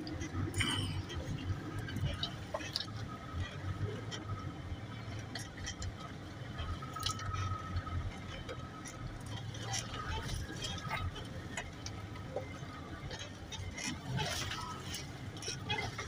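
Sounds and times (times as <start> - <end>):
engine droning: 0.0 - 16.0
water and mud splashing: 0.0 - 16.0.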